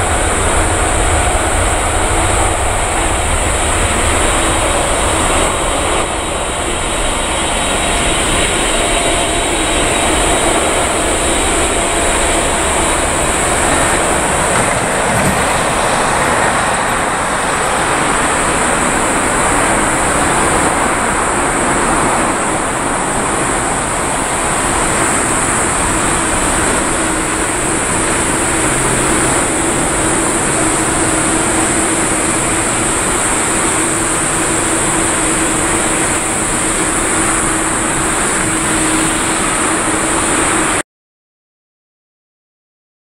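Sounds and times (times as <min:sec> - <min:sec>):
jet engines rushing: 0:00.0 - 0:40.8
steady low tone: 0:00.0 - 0:40.8.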